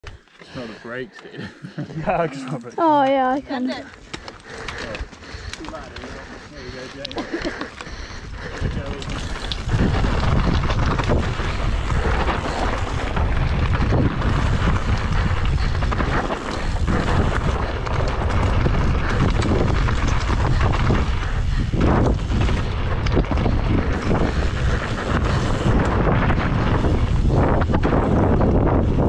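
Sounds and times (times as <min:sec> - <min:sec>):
tyres rumbling on rocky trail: 0:00.4 - 0:29.0
wind buffeting microphone: 0:03.4 - 0:29.0.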